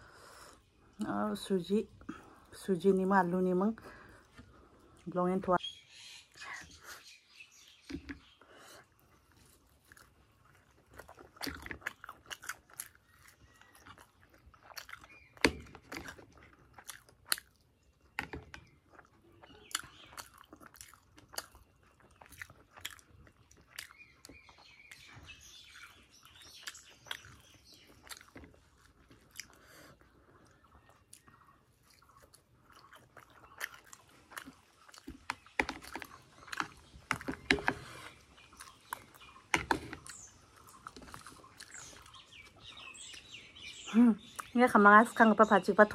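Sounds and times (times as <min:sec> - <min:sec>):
biting and chewing crisp food: 0:06.7 - 0:45.9.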